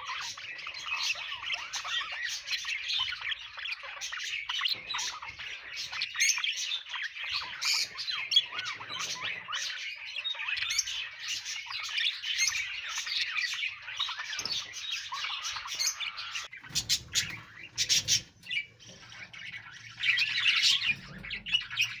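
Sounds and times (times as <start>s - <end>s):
budgerigars chirping: 0.0s - 22.0s.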